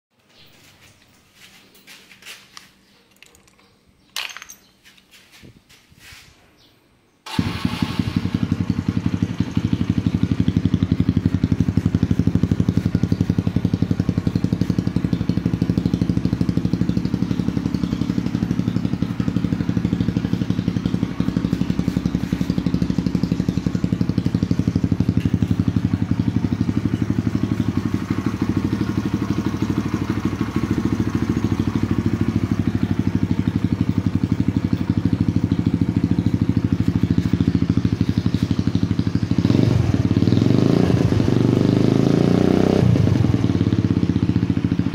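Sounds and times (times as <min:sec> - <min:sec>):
motorcycle engine idling: 0:07.3 - 0:44.9.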